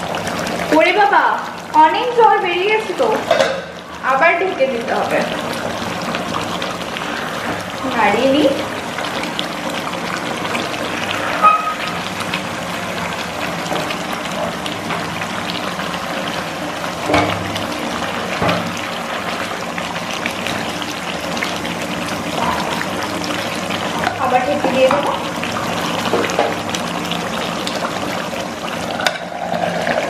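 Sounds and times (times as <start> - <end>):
curry bubbling in frying pan: 0.0 - 30.0.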